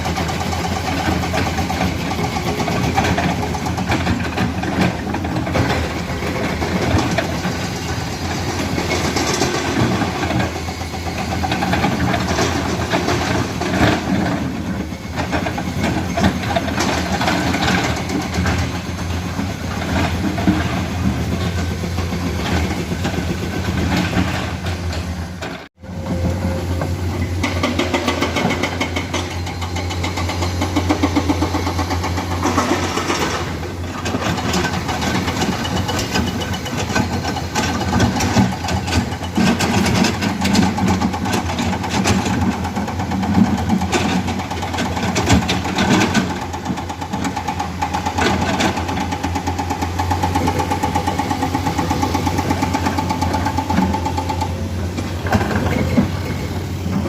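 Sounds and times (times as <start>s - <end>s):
excavator diesel engines running: 0.0s - 57.0s.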